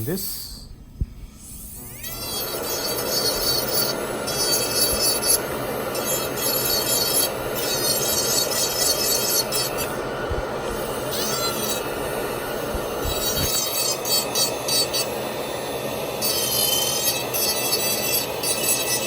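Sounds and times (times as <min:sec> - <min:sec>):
dental handpiece whine: 0:00.0 - 0:19.0
bur grinding acrylic: 0:01.4 - 0:19.0.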